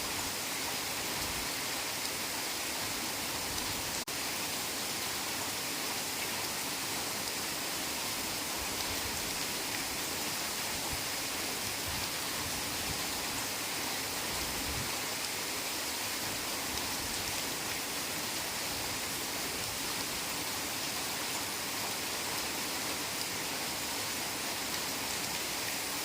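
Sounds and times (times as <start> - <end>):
heavy rain in forest: 0.0 - 26.0.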